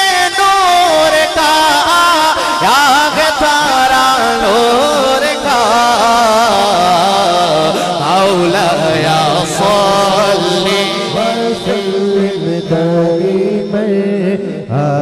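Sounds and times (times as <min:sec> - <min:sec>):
man singing through a microphone: 0:00.0 - 0:15.0.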